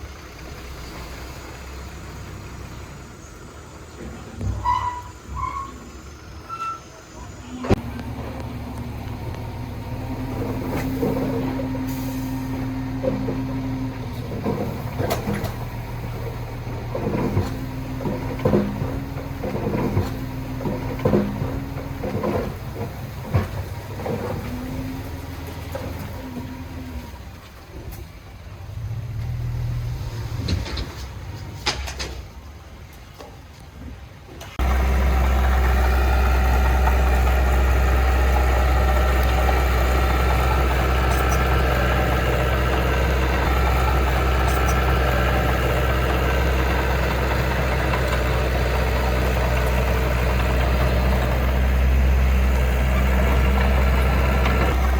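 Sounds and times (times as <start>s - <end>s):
heavy diesel engine: 0.0s - 54.9s
engine knocks: 7.6s - 28.0s, 28.8s - 32.4s, 33.0s - 54.9s.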